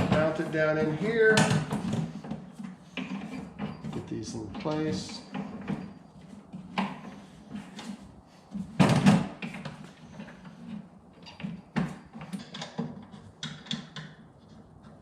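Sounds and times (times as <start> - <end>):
metal case clunking and clicking: 0.0 - 14.3.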